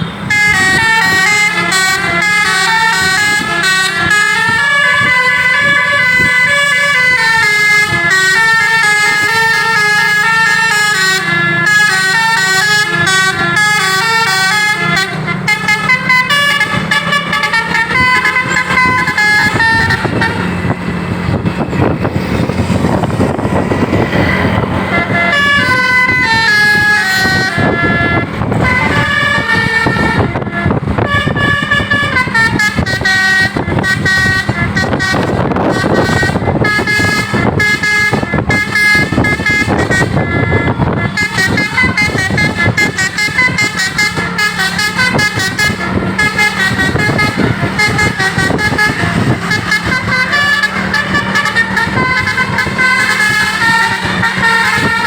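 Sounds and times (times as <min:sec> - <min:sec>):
multi-tone bus air horn: 0:00.0 - 0:55.0.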